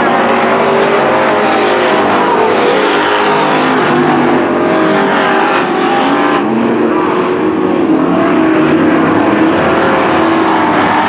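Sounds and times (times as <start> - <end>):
race car engines at speed: 0.0 - 11.0.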